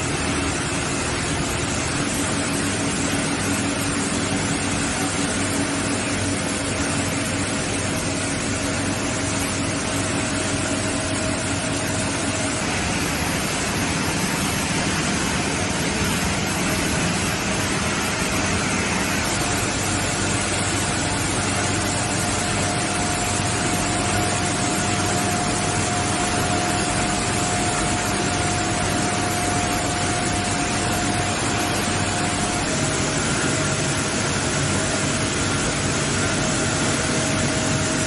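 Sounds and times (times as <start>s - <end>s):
faint steady whine: 0.0s - 38.0s
industrial machinery running: 0.0s - 38.0s.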